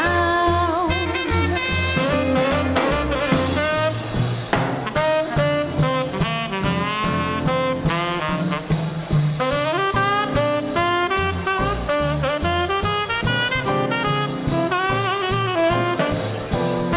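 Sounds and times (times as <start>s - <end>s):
bass notes: 0.0s - 16.9s
drums: 0.0s - 16.9s
piano: 0.0s - 16.9s
saxophone: 0.0s - 16.9s
trumpet: 0.0s - 16.9s.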